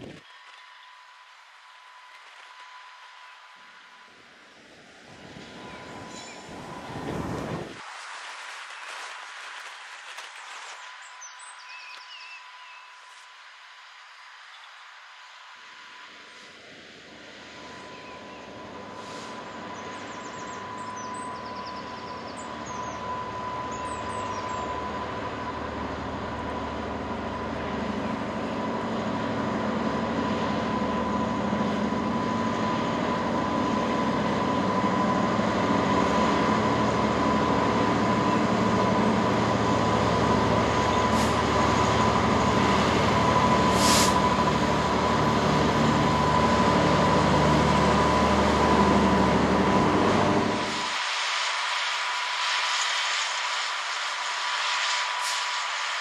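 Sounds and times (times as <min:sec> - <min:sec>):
diesel locomotive engine running: 0:00.0 - 0:56.0
high whine: 0:10.2 - 0:56.0.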